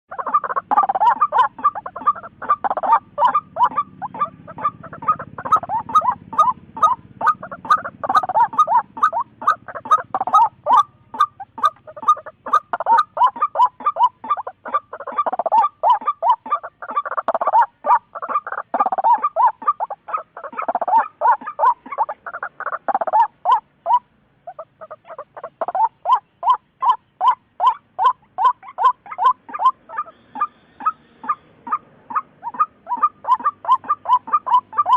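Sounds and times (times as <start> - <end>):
waterhen calling: 0.1 - 34.9.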